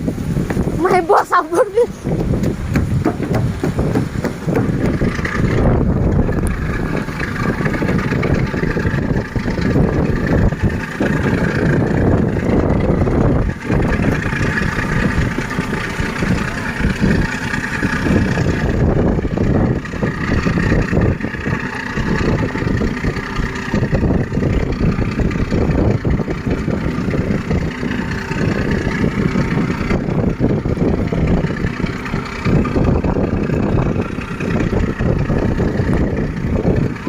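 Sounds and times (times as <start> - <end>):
boat engine running: 0.0 - 37.0
wind buffeting microphone: 0.0 - 37.0.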